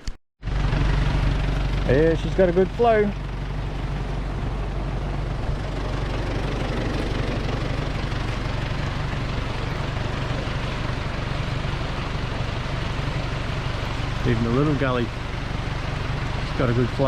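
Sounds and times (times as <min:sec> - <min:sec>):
low hum: 0:00.4 - 0:17.0
creek rushing: 0:01.2 - 0:17.0.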